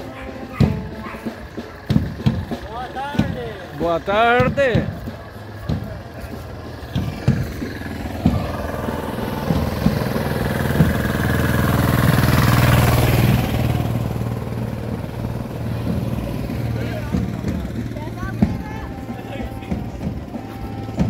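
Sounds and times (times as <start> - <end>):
utility vehicle engine driving past: 0.0 - 21.0.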